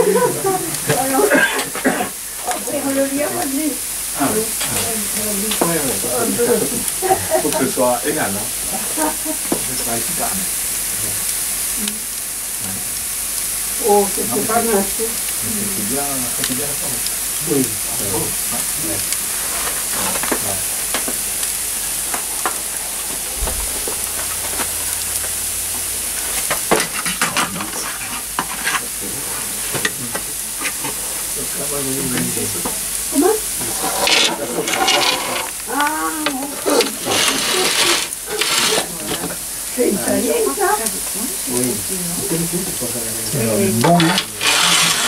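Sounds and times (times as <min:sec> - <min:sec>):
batter sizzling in metal pan: 0:00.0 - 0:45.0
embers crackling: 0:00.0 - 0:45.0.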